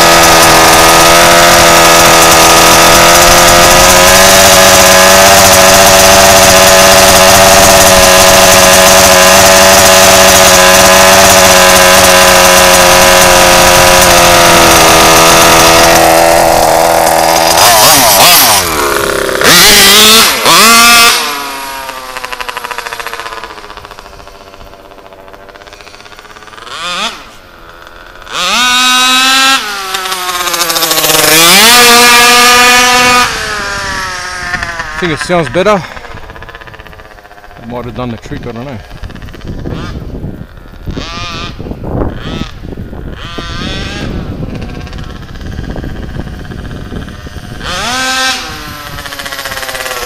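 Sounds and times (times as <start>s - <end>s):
two-stroke engine revving at high revs: 0.0s - 50.0s.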